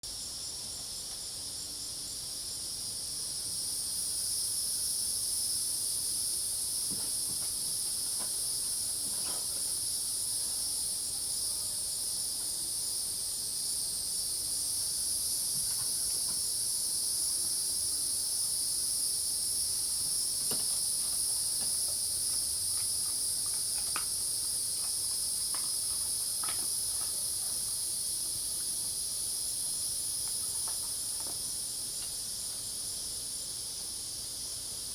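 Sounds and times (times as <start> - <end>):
cicadas trilling: 0.1 - 34.9
pulsing cricket trill: 0.1 - 34.9.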